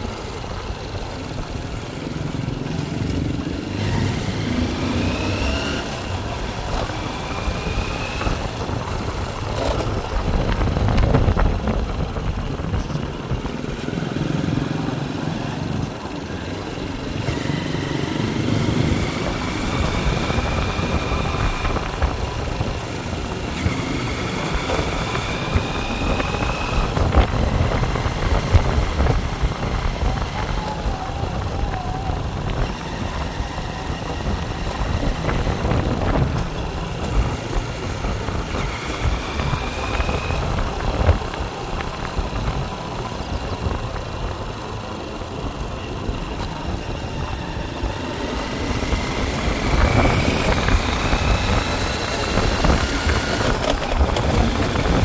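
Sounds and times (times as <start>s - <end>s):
rising engine whine: 0.0s - 55.0s
vehicle engines rumbling: 0.0s - 55.0s.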